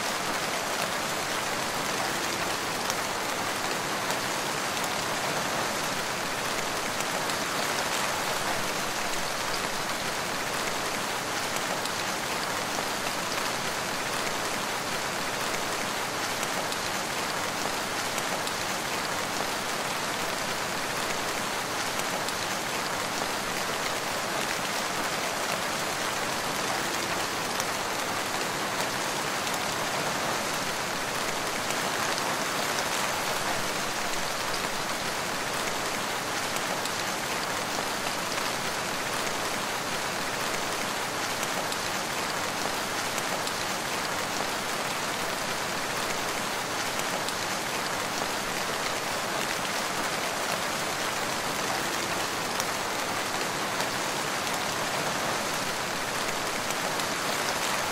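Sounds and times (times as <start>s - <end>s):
rain pattering on forest: 0.0s - 57.9s.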